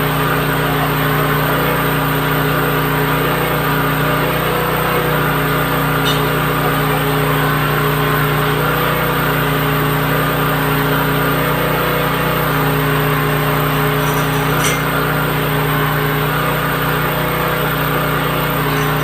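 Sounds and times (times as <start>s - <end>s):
drilling rig engine droning: 0.0s - 19.0s.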